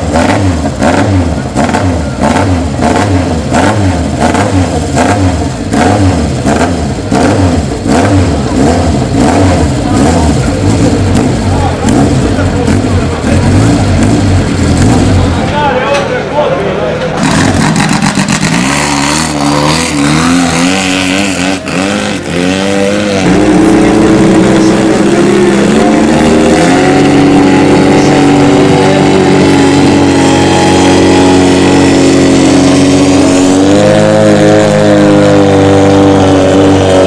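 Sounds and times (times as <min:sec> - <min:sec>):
powerboat engine revving: 0:00.0 - 0:15.6, 0:17.1 - 0:37.0.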